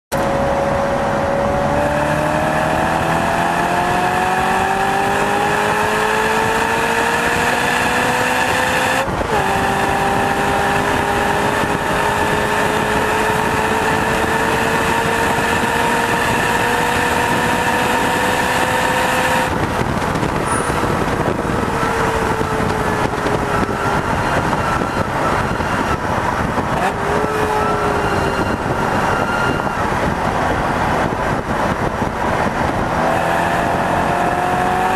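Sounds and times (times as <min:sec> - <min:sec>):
car engine accelerating: 0:00.1 - 0:34.9
wind and road noise: 0:00.1 - 0:34.9.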